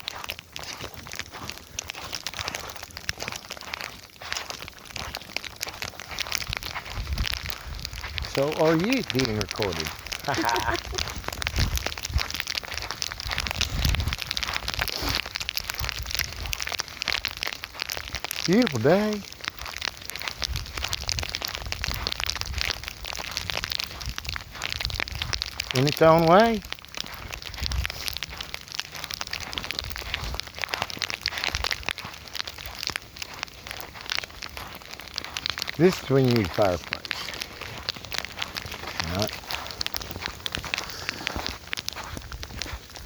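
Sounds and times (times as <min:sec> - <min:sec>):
footsteps crunching on ice: 0:00.0 - 0:43.0
ice crackling and cracking: 0:00.0 - 0:43.0.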